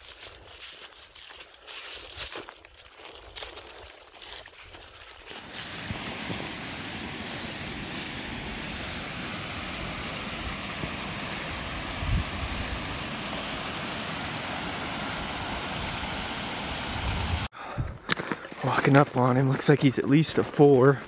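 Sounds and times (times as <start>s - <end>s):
creek trickling over rocks: 0.0s - 17.3s.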